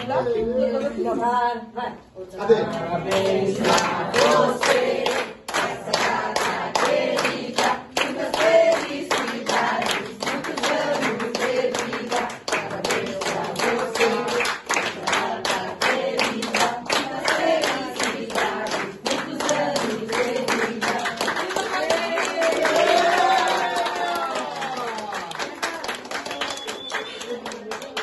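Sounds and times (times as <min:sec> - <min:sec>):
people clapping in rhythm: 0:00.0 - 0:00.2, 0:02.5 - 0:28.0
group singing birthday song: 0:00.0 - 0:24.5.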